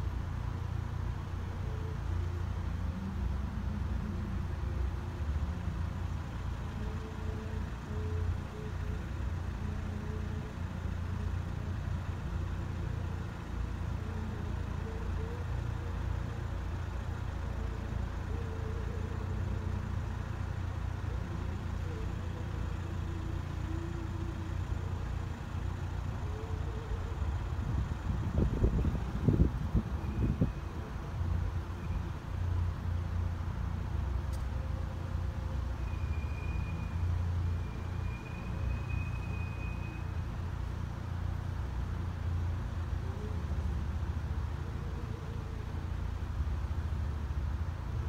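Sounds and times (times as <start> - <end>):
idling engines rumbling: 0.0 - 48.0.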